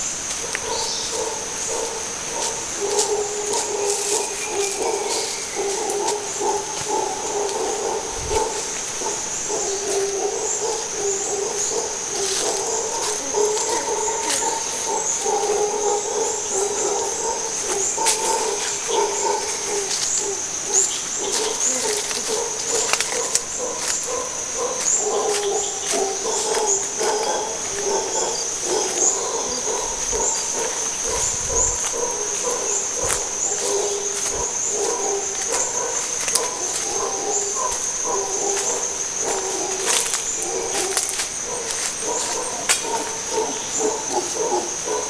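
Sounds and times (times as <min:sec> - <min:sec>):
footsteps on dry leaves: 0:00.0 - 0:44.6
howler monkeys howling: 0:00.0 - 0:45.0.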